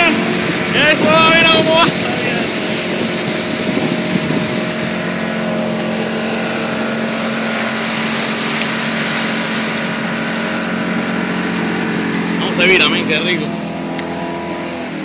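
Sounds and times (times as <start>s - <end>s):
motorboat engine running: 0.0s - 15.0s
rushing water: 0.0s - 15.0s
wind: 0.0s - 15.0s.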